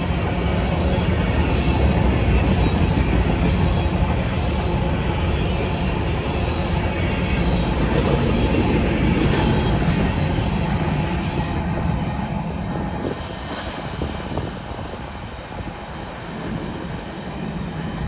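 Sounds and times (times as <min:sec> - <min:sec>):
freight train cars rolling past: 0:00.0 - 0:18.0.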